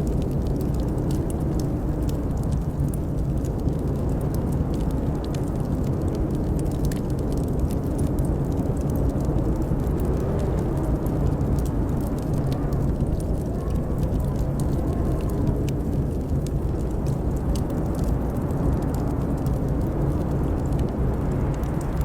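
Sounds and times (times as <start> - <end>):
blizzard wind howling: 0.0 - 22.0
log fire crackling: 0.0 - 22.0.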